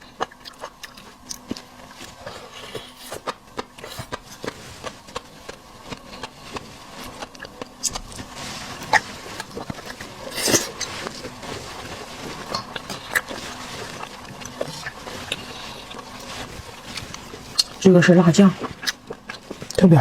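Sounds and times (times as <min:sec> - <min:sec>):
chewing and mouth smacks: 0:00.0 - 0:11.4, 0:12.4 - 0:17.8, 0:18.6 - 0:19.8.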